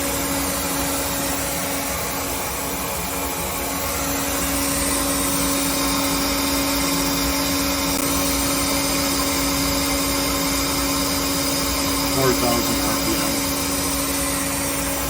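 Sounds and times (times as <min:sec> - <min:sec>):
lathe spindle humming and whining: 0:00.0 - 0:15.0.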